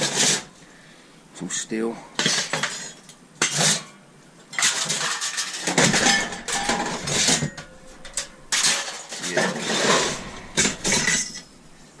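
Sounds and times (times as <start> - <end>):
scrap steel clattering: 0.0 - 0.6, 2.2 - 12.0.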